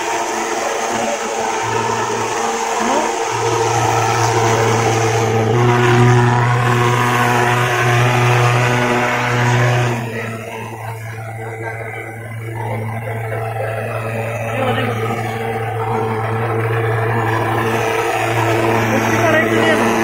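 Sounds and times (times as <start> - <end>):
fogging machine buzzing drone: 0.0 - 20.0.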